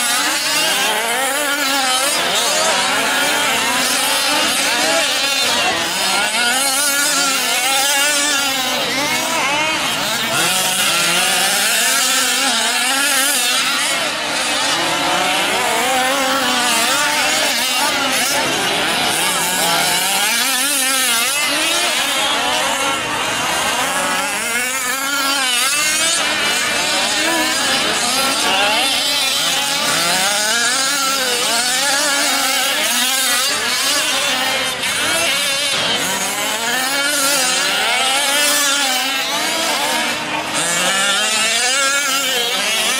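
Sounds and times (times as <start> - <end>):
small two-stroke engines revving: 0.0 - 42.9.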